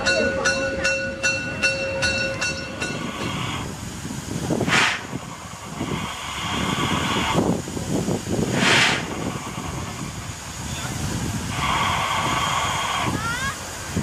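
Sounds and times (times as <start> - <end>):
train wheels clicking: 0.0 - 13.9
steam hissing: 0.7 - 14.0.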